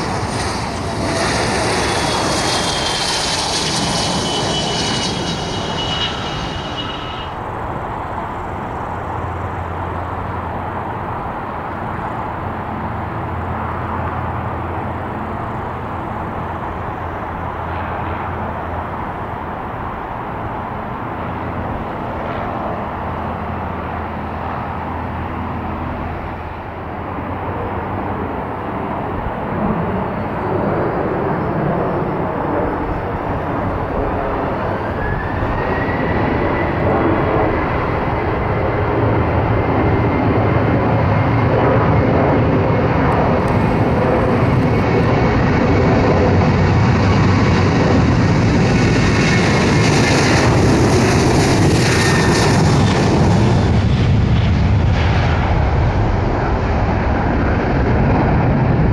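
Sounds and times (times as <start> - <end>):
engine whine: 0.0 - 58.9
jet engines running: 0.0 - 58.9.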